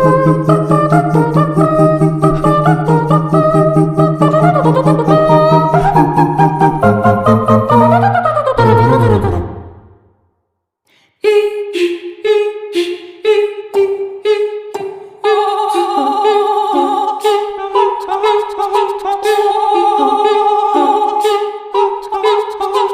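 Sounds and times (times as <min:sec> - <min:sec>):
voices singing a cappella: 0:00.0 - 0:09.7, 0:11.1 - 0:22.9.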